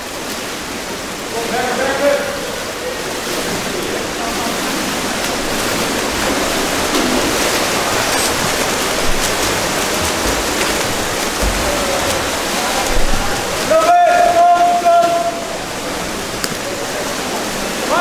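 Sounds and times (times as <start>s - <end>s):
pool water splashing: 0.0s - 18.0s.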